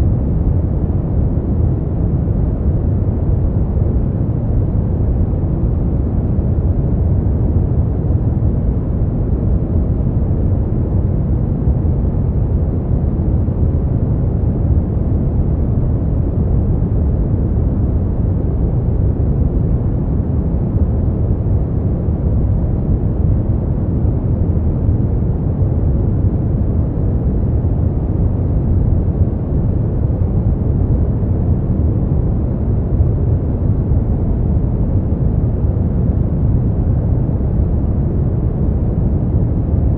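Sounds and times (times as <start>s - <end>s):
deep rushing brown noise: 0.0s - 39.9s.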